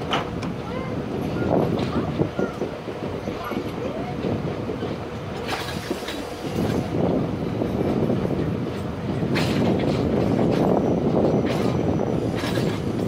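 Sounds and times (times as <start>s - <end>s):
clacks over rail joints: 0.0s - 13.0s
rumble of wheels on track: 0.0s - 13.0s.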